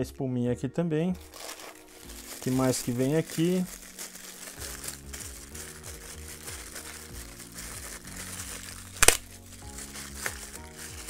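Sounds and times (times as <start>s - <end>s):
soft background music: 0.0s - 11.0s
plastic bag crinkling: 1.2s - 11.0s
sharp plastic crackle: 1.2s - 11.0s.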